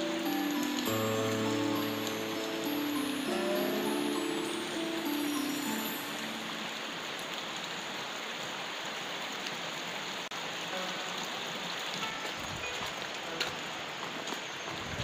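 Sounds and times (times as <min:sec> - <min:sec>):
rain on water and ground: 0:00.0 - 0:15.0.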